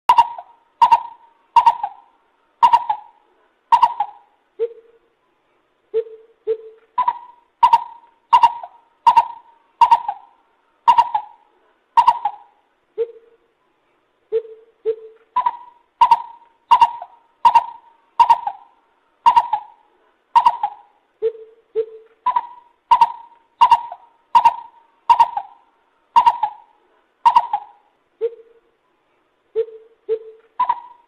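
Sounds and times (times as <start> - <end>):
bird hooting calls: 0.1 - 5.0, 5.9 - 13.4, 14.3 - 28.6, 29.5 - 31.0.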